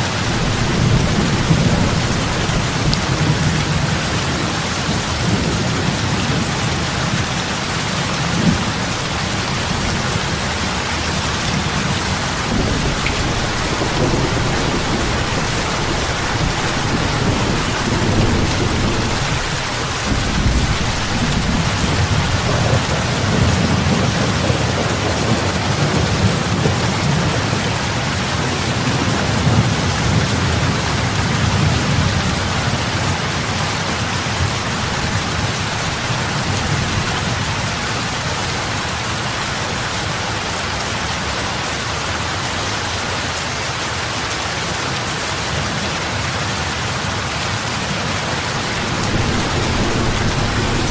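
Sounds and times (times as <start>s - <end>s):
rain falling on water: 0.0s - 50.9s.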